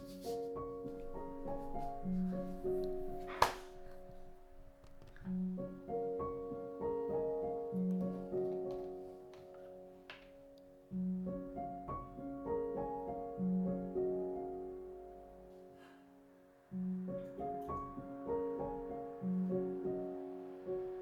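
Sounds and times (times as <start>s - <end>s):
soft piano music: 0.0s - 21.0s.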